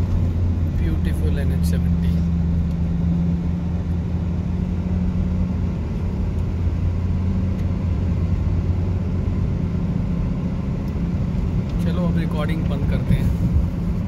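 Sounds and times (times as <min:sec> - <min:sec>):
car engine hum: 0:00.0 - 0:14.0
tyre and road noise: 0:00.0 - 0:14.0.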